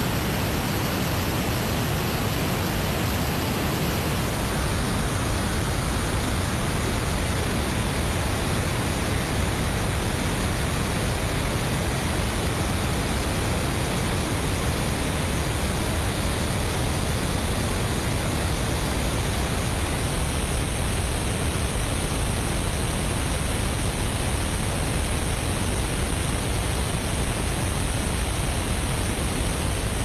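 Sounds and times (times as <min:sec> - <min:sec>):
airliner cabin jet engine hiss: 0:00.0 - 0:30.0.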